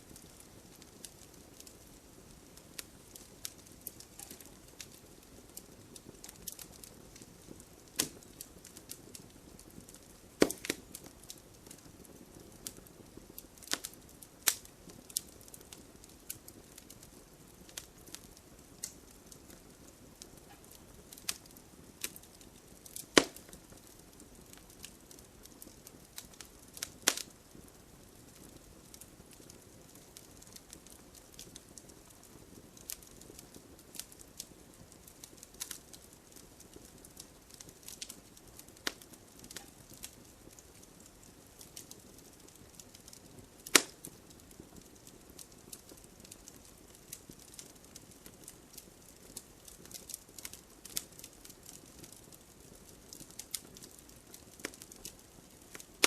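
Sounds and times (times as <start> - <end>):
hiss of flames: 0.0 - 56.0
logs crackling and popping: 0.0 - 56.0.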